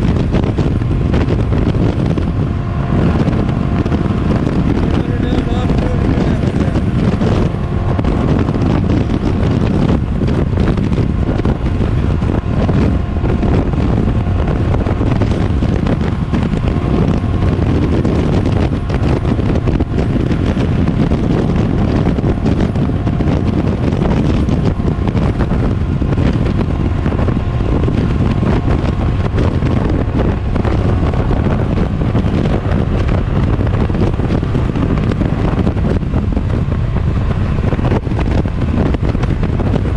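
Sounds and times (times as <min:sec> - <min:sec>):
motorcycle engine at speed: 0:00.0 - 0:39.9
wind buffeting microphone: 0:00.0 - 0:39.9.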